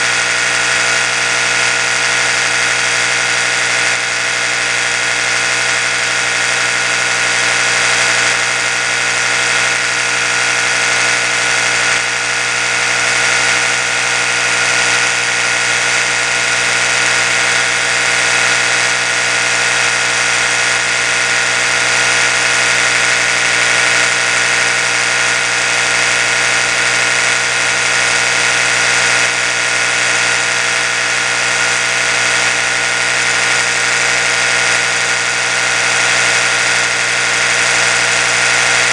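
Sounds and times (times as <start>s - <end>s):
electric toothbrush buzzing: 0.0s - 38.9s.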